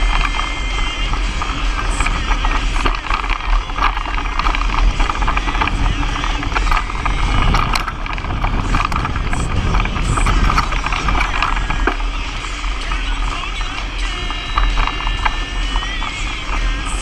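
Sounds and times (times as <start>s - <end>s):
bike rattling over bumps: 0.0s - 17.0s
steady low rumble: 0.0s - 17.0s
tyre noise on dirt: 0.0s - 17.0s.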